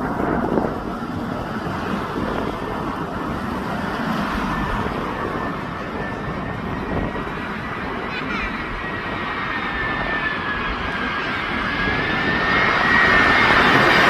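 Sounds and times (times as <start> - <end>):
high engine whine: 0.0 - 14.0
jet engines rumbling: 0.0 - 14.0.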